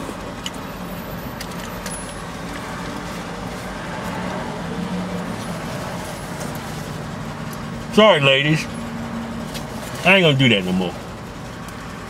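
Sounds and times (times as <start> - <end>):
car idling hum: 0.0 - 12.0.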